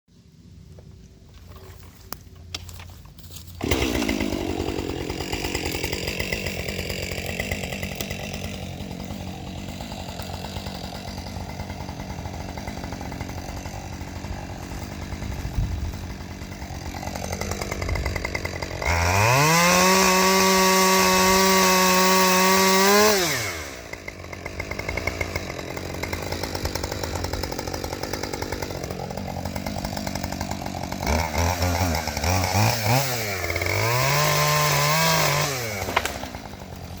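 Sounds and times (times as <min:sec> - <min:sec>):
chainsaw cutting wood: 0:01.4 - 0:37.0.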